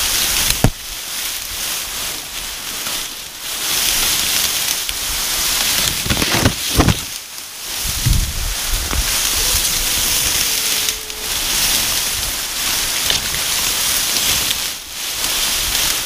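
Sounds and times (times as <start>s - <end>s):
rustling in dense grass: 0.0s - 16.0s.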